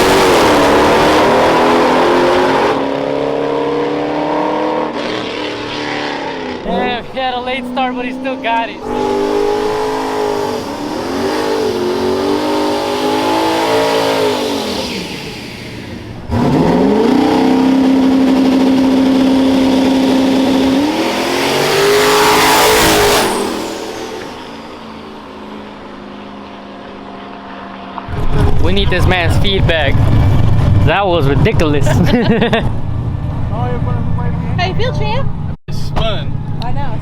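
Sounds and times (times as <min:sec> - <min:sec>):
drag racing engines revving: 0:00.0 - 0:37.0
steady engine sound: 0:06.6 - 0:13.6, 0:14.3 - 0:37.0.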